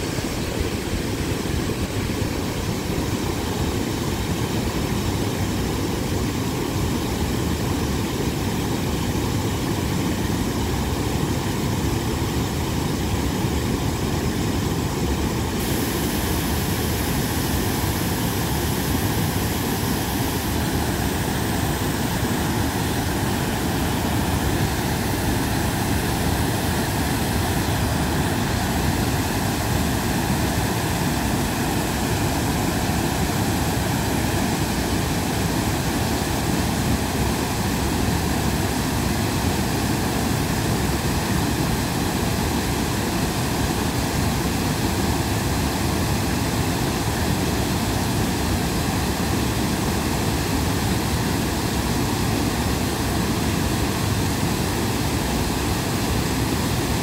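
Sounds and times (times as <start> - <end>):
fast-flowing river water: 0.0 - 57.0
waterfall roaring: 0.0 - 57.0.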